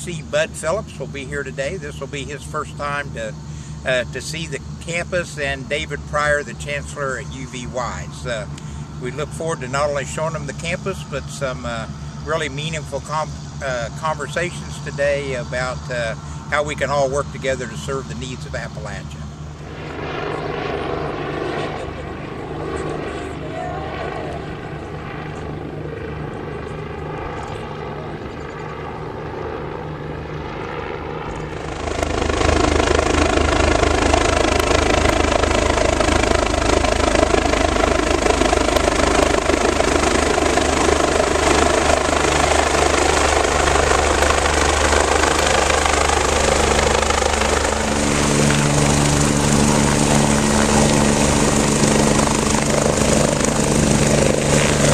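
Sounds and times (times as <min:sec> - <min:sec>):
helicopter rotor and engine: 0:00.0 - 0:54.9.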